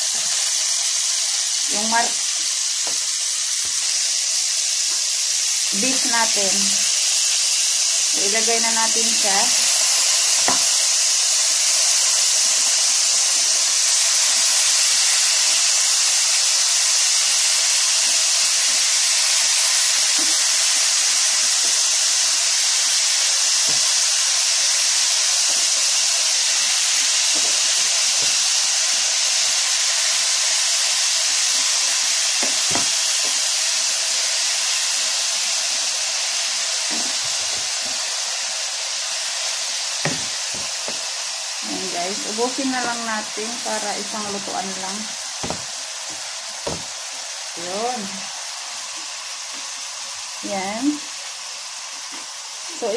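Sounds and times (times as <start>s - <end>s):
meat sizzling in a frying pan: 0.0s - 52.9s.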